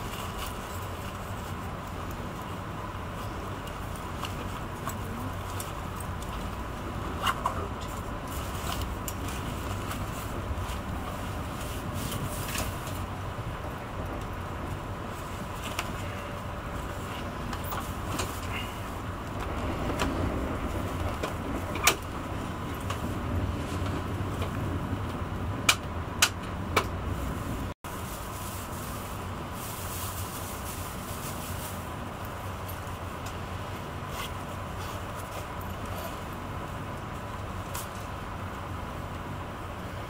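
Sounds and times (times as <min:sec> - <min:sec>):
train interior rumble: 0:00.0 - 0:40.0.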